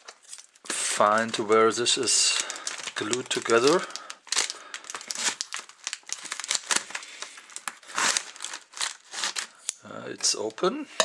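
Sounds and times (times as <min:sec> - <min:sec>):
packaging crinkling and tearing: 0:00.0 - 0:09.8.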